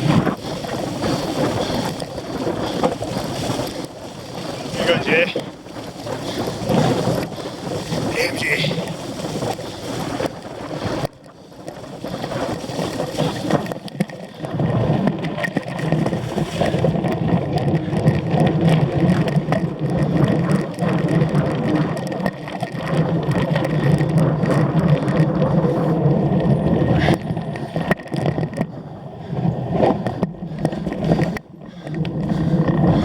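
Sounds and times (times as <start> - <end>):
bike tyres on dirt and grass: 0.0 - 33.0
wind buffeting microphone: 0.0 - 33.0.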